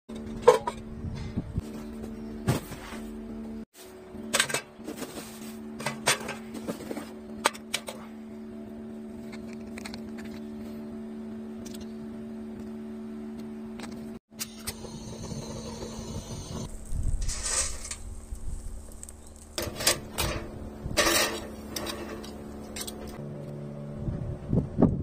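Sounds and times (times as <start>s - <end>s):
steady low hum: 0.1s - 25.0s.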